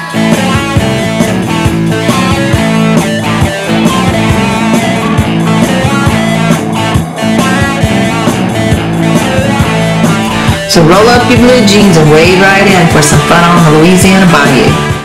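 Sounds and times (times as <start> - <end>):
upbeat rock song with guitar: 0.0 - 15.0.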